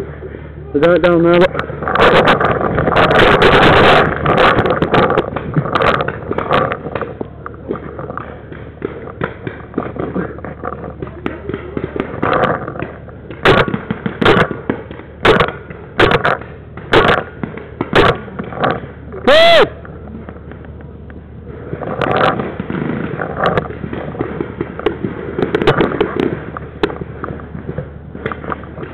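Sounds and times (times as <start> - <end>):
handling and movement noise: 0.0 - 28.9.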